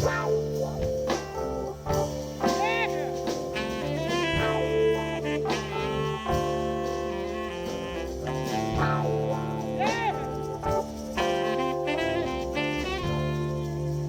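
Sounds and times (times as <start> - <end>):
bass: 0.0 - 14.0
drums: 0.0 - 14.0
electric guitar: 0.0 - 14.0
horn section: 0.0 - 14.0.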